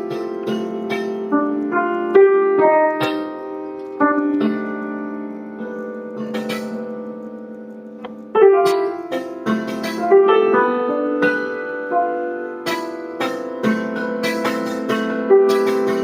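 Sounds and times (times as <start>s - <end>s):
prepared piano notes ringing: 0.0s - 16.0s.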